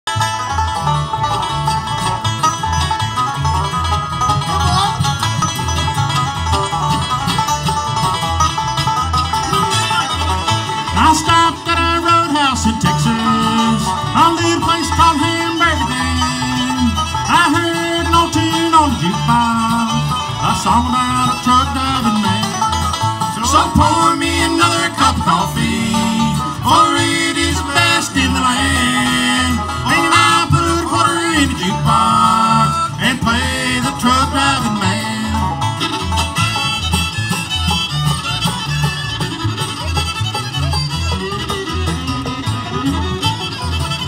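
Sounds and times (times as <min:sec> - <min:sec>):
bluegrass band playing: 0:00.1 - 0:44.0
sliding lead melody notes: 0:00.1 - 0:44.0.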